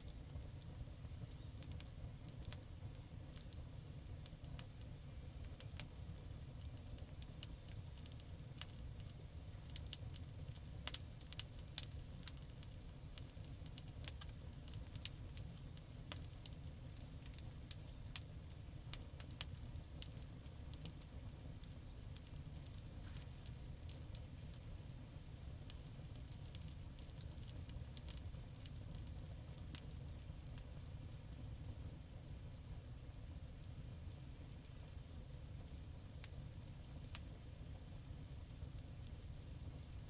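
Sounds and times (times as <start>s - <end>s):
low rumble of flames: 0.0s - 40.0s
wood crackling and popping: 0.0s - 40.0s.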